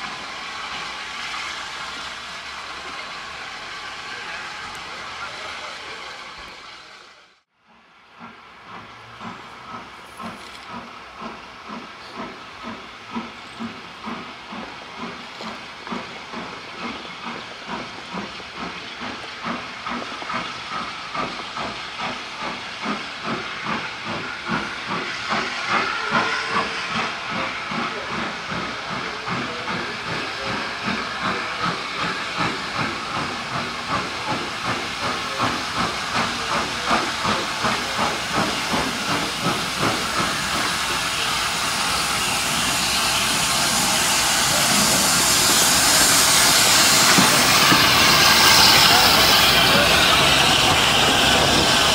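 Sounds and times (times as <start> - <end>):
steam hiss: 0.0 - 7.3, 8.1 - 51.9
steam locomotive chuffing: 0.0 - 51.9.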